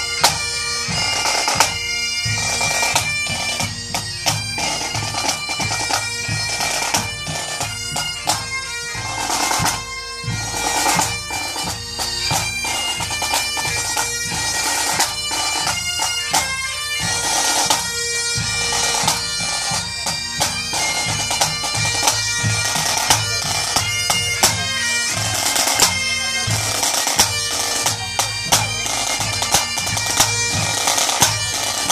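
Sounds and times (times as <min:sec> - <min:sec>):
bagpipes playing a tune: 0:00.0 - 0:31.9
drum strokes: 0:00.0 - 0:31.9.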